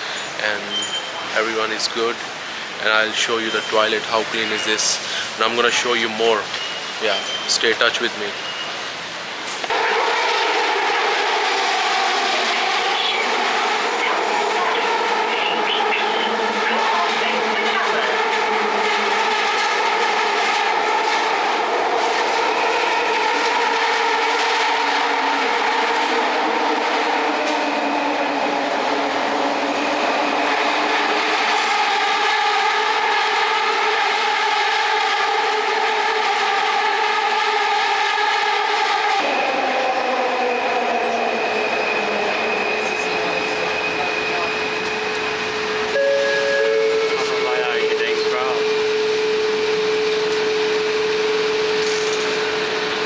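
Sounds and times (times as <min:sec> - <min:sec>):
electric train running: 0:09.6 - 0:53.0.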